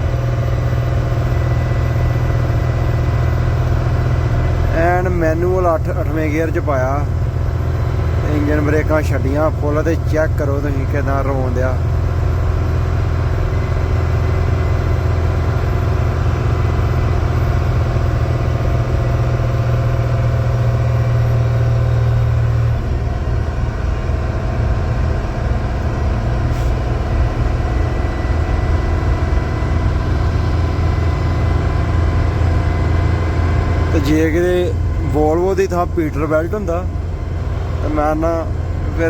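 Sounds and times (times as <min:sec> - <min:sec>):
truck engine brake drone: 0:00.0 - 0:39.0.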